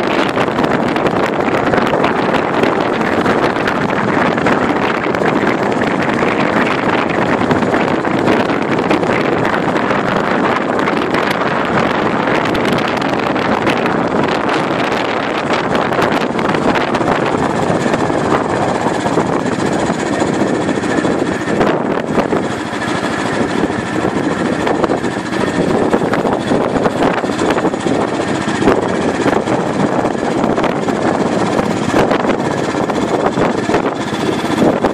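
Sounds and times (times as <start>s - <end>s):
vehicle road noise: 0.0s - 34.9s
wind buffeting phone microphone: 0.0s - 34.9s.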